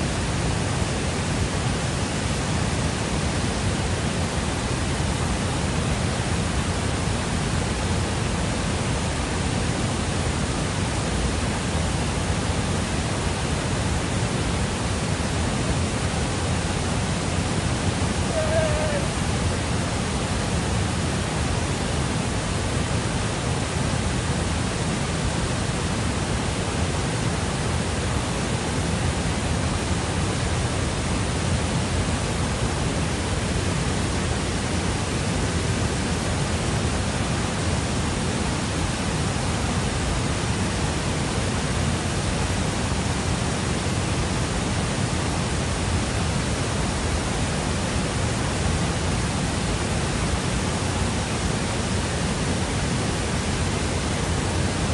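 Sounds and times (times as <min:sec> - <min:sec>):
fast-flowing water rushing: 0:00.0 - 0:54.9.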